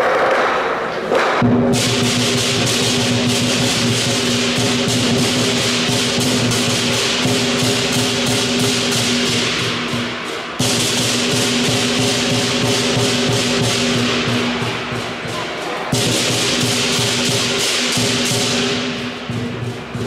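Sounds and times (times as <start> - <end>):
crashing hand cymbals: 0.0 - 20.0
lion drum fast rolls: 0.0 - 20.0.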